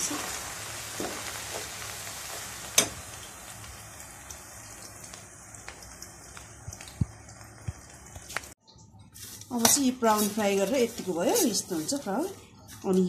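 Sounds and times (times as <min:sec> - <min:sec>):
garlic sizzling in hot oil: 0:00.0 - 0:08.6, 0:09.2 - 0:13.0.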